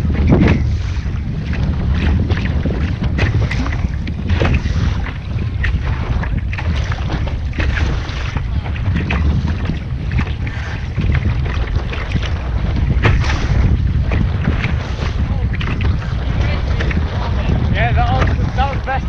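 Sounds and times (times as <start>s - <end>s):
water splashing against hull: 0.0s - 19.0s
wind rumbling on microphone: 0.0s - 19.0s.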